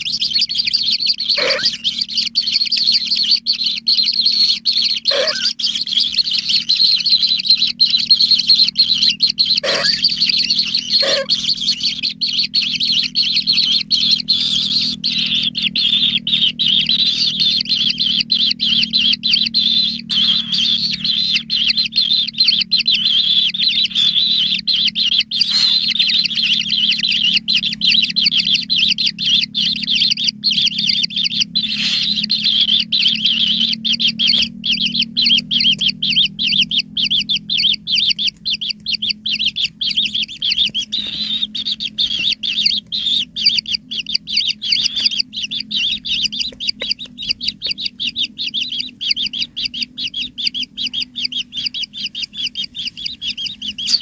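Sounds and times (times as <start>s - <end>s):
low steady hum: 0.0s - 54.0s
nestlings chirping rapidly: 0.0s - 54.0s.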